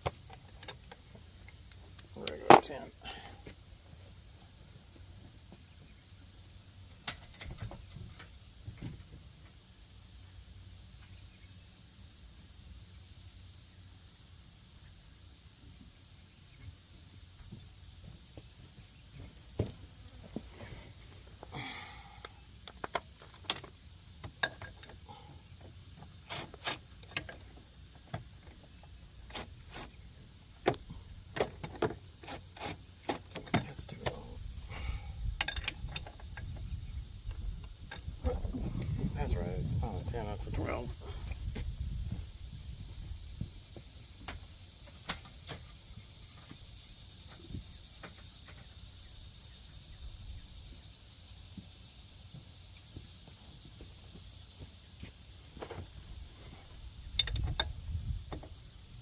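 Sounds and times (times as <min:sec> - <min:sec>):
faint steady hum: 0:00.0 - 0:59.0
rustle: 0:00.0 - 0:59.0.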